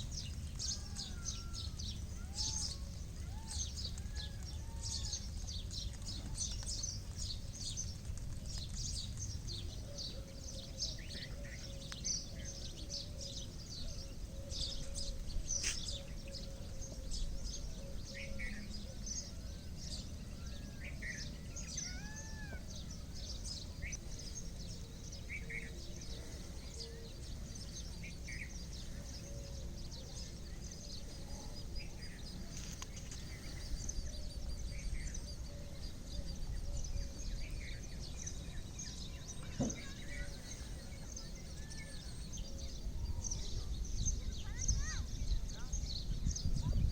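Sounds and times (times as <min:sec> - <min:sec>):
low outdoor rumble: 0:00.0 - 0:46.9
small birds chirping: 0:00.0 - 0:46.9.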